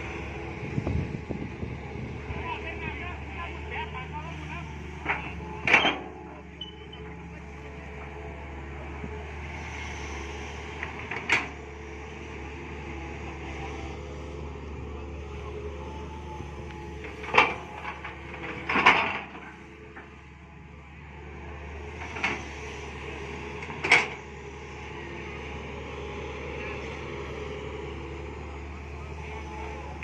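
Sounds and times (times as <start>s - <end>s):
mini excavator running: 0.0s - 30.0s.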